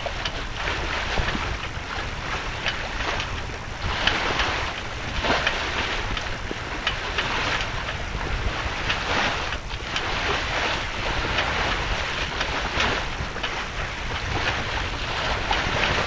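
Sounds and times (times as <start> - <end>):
bow splashing into waves: 0.0 - 16.0
water rushing along hull: 0.0 - 16.0
wind buffeting microphone: 0.0 - 16.0.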